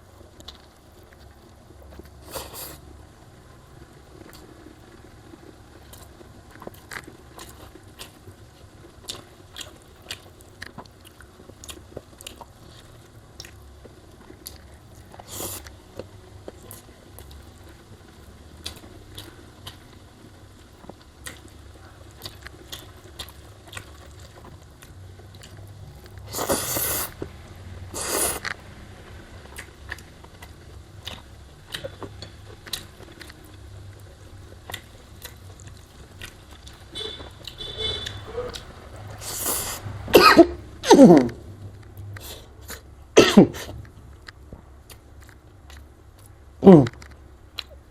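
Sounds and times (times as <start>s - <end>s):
chewing and mouth sounds: 4.2s - 28.6s, 29.4s - 39.8s, 40.9s - 42.9s, 43.5s - 47.9s.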